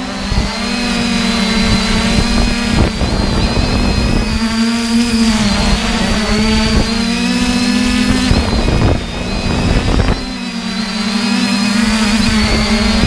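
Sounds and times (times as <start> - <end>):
drone propellers humming: 0.0 - 13.0
high motor whine: 0.0 - 13.0
wind rumbling on microphone: 0.0 - 13.0.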